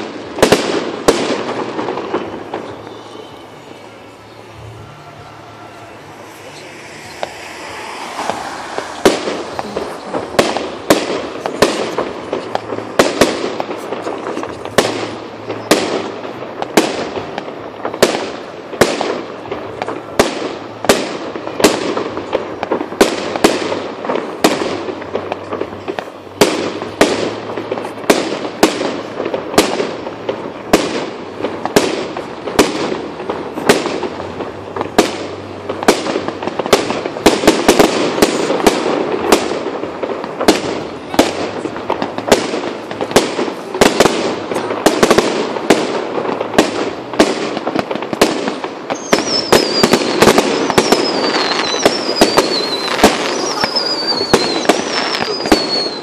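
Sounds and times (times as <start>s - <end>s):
continuous noisy background: 0.0s - 56.0s.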